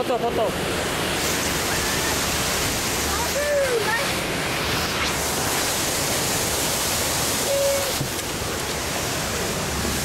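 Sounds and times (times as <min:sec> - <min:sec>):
churning water rushing: 0:00.0 - 0:10.0.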